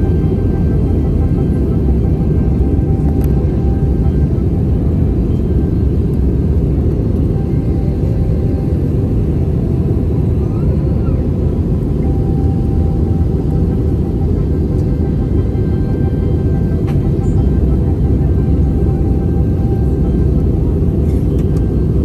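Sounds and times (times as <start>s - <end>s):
jet engine and airflow roar: 0.0s - 22.0s.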